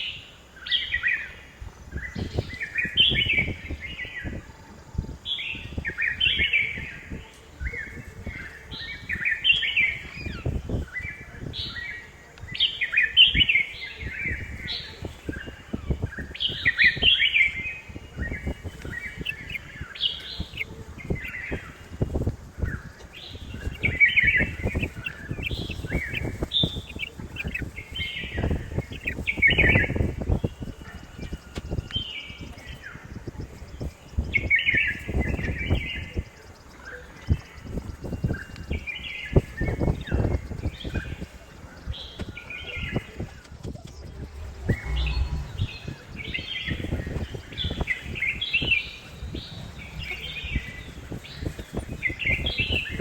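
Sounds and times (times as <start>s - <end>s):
low rumble on microphone: 0.7s - 53.0s.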